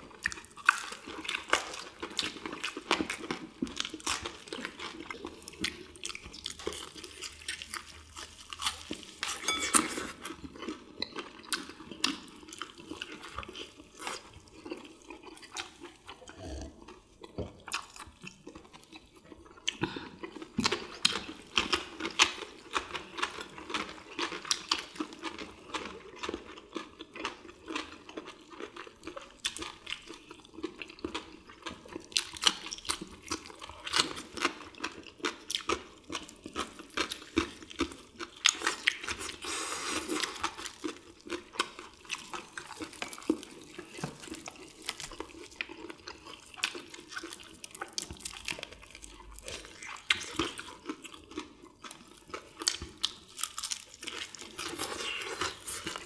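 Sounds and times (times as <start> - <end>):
wet chewing and lip-smacking: 0.1 - 56.0.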